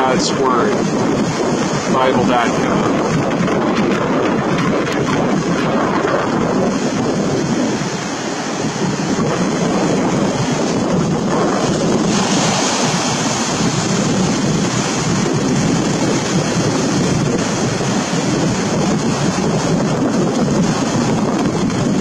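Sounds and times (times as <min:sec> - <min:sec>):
ocean surf washing onto beach: 0:00.0 - 0:22.0
wind rumbling on microphone: 0:00.0 - 0:22.0.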